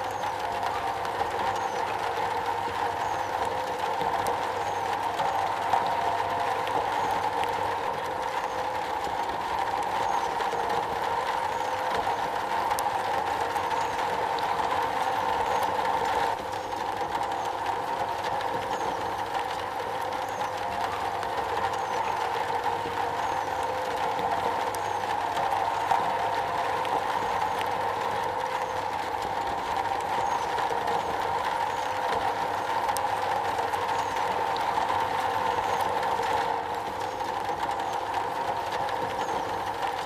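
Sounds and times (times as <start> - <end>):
rain on a metal roof: 0.0 - 40.0.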